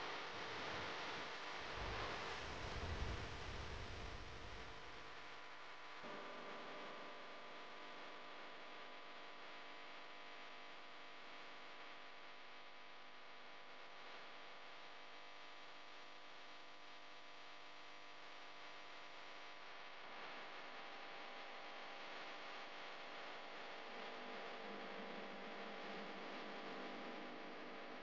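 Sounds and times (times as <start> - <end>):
faint hum with hiss: 0.0 - 28.0.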